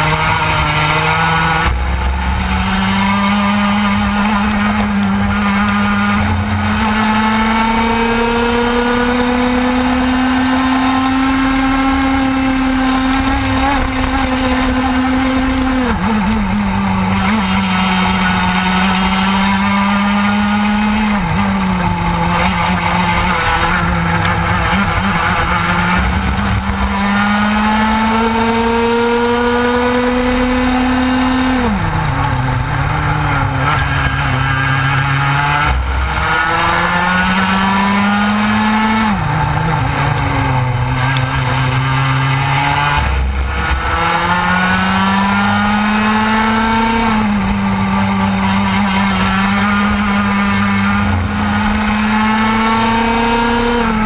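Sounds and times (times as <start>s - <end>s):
kart two-stroke engine at full throttle: 0.0s - 54.0s.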